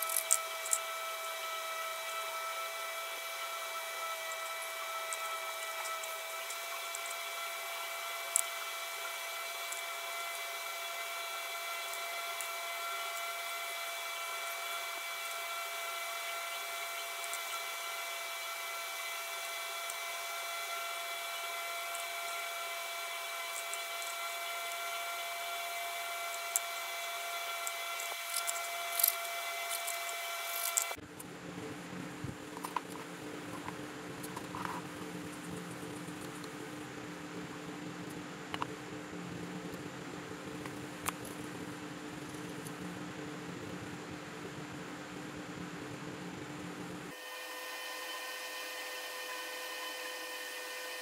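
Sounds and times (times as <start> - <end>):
small electric motor whining: 0.0 - 31.0, 31.7 - 44.7, 47.0 - 51.0.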